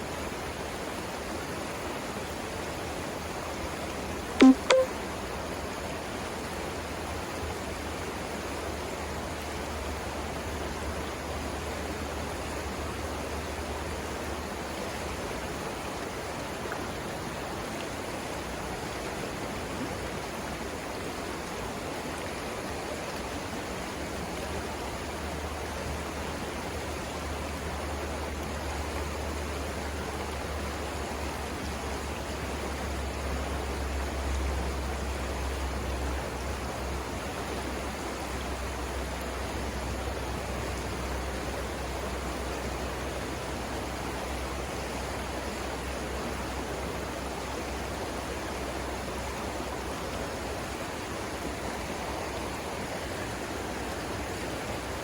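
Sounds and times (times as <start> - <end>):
river water rushing over rapids: 5.6 - 55.0.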